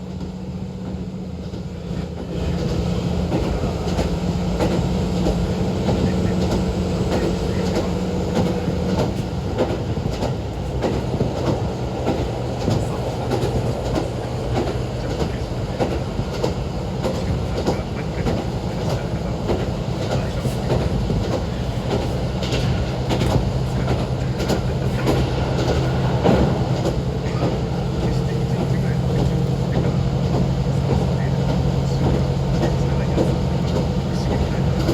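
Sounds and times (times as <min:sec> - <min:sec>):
diesel railcar engine hum: 0:00.0 - 0:34.9.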